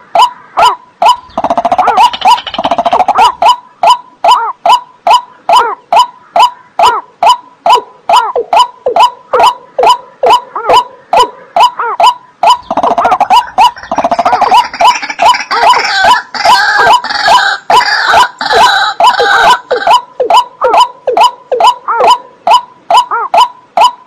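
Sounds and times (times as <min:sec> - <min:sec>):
higher bird call: 0:00.0 - 0:24.0.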